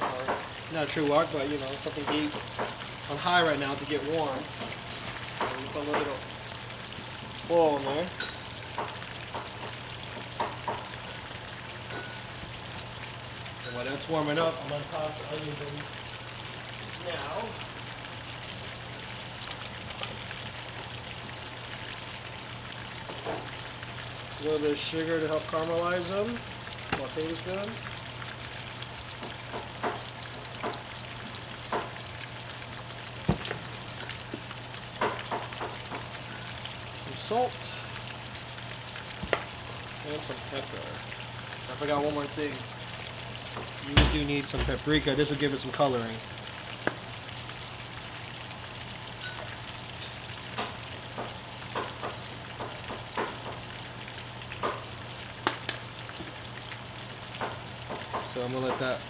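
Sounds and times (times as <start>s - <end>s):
onions sizzling in oil: 0.0s - 59.0s.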